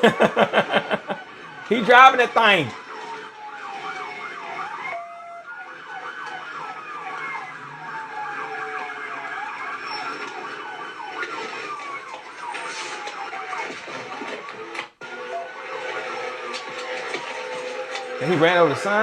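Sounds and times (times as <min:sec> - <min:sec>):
police siren yelp: 0:00.0 - 0:19.0
police sirens wailing: 0:00.0 - 0:19.0.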